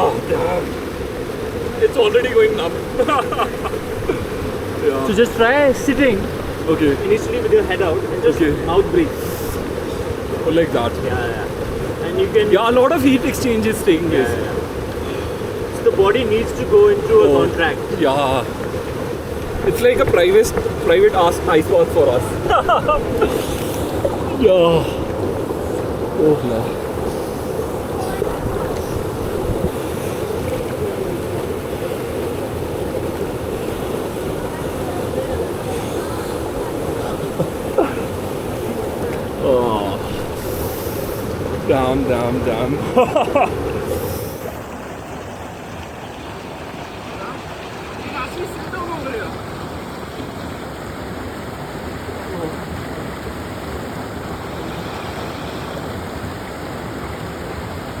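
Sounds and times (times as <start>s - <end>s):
waterfall pouring into pool: 0.0s - 58.0s.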